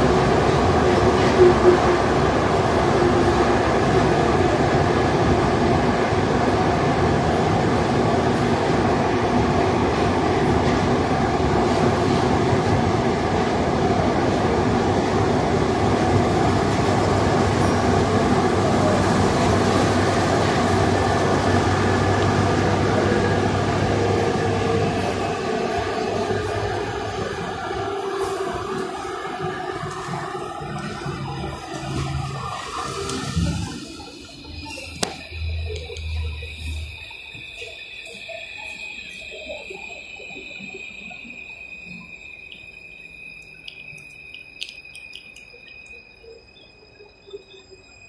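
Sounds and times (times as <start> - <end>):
train rolling and running noise: 0.0 - 48.0.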